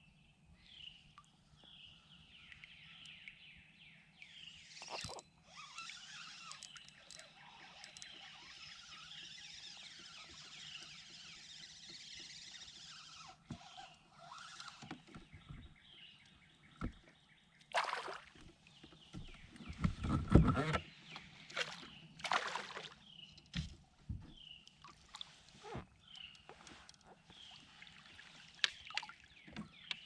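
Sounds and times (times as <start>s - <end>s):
birds singing: 0.1s - 30.0s.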